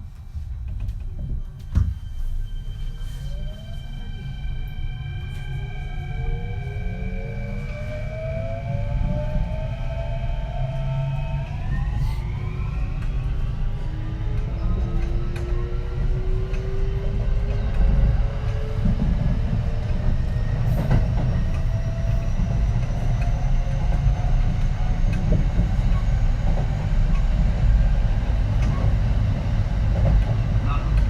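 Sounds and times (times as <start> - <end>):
wheels rumbling on rails: 0.0 - 31.0.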